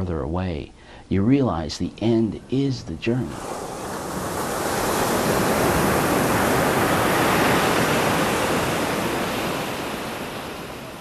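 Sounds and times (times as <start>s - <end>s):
steady rushing noise: 1.8s - 11.0s.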